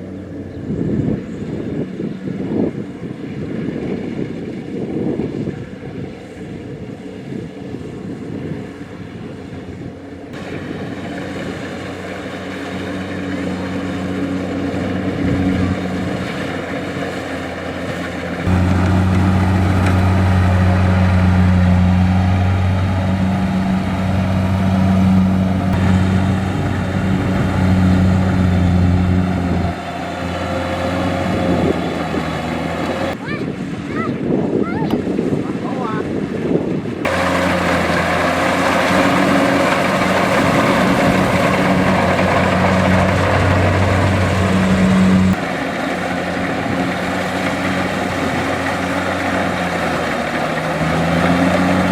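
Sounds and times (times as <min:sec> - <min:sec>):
combine harvester engine running: 0:00.0 - 0:34.4, 0:35.0 - 0:51.9.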